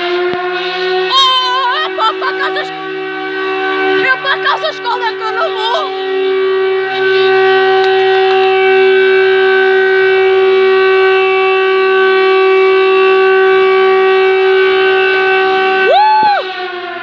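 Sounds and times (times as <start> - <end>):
fire station siren steady tone: 0.0 - 17.0.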